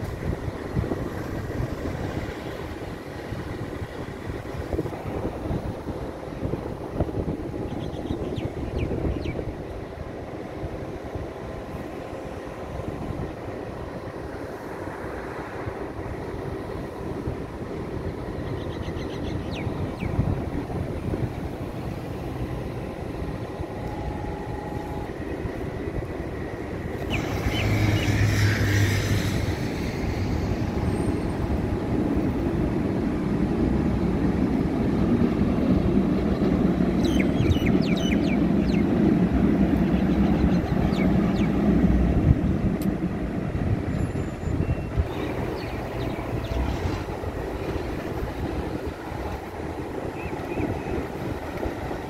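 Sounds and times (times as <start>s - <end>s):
street traffic: 0.0s - 52.0s
tram rumbling: 0.0s - 52.0s.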